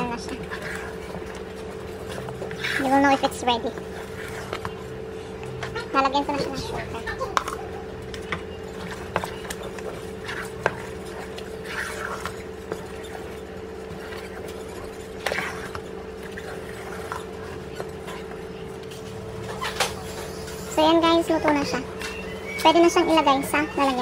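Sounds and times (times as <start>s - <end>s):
steady hum: 0.0s - 24.0s
wooden spatula scraping metal pot: 0.2s - 5.0s, 8.3s - 24.0s.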